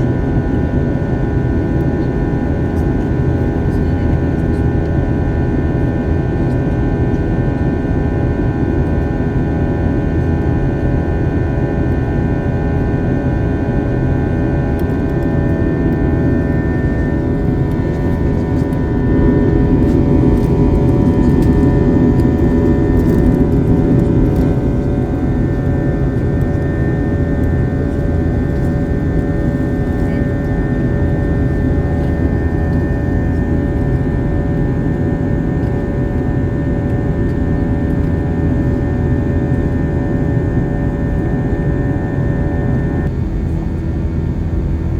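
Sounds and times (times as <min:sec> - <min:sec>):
jet engine cabin rumble: 0:00.0 - 0:44.9.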